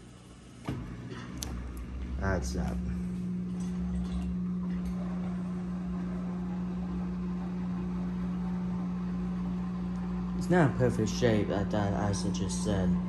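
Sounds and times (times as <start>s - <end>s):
dishwasher pump hum: 0.0s - 13.0s.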